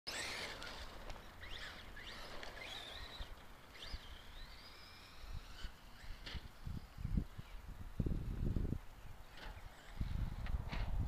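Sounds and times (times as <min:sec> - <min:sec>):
rc truck electric motor whining: 0:00.1 - 0:08.7, 0:09.3 - 0:11.0.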